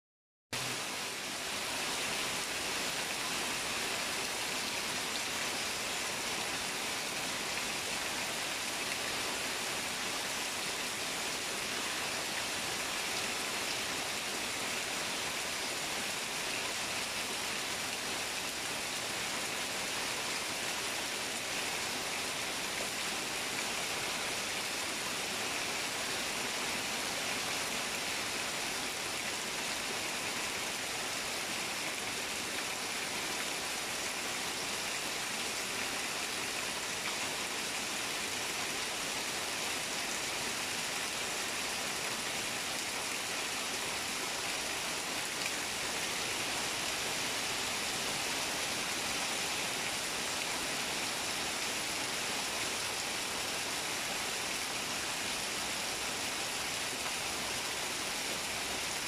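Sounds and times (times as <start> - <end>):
heavy rain on trees and roof: 0.6 - 59.0.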